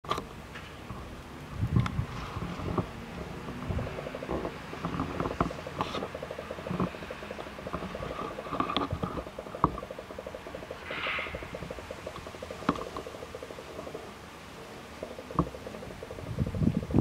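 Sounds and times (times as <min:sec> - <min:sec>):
rapid mechanical ticking: 0:00.0 - 0:17.0.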